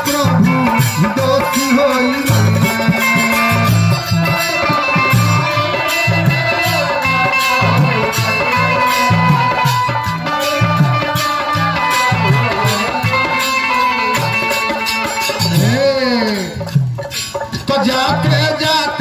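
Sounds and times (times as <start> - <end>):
held melodic notes: 0.0 - 16.7
drum beating quick rhythm: 0.0 - 19.0.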